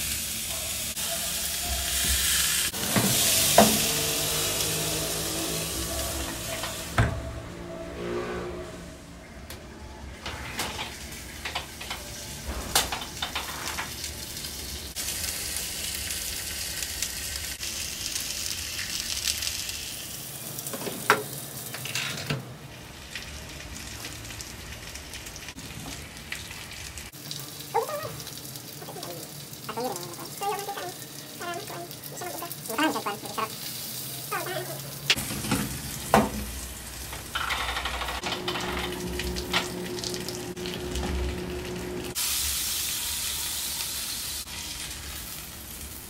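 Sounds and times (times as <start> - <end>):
fish sizzling on grill pan: 0.0 - 6.9, 11.0 - 21.8, 22.8 - 46.0.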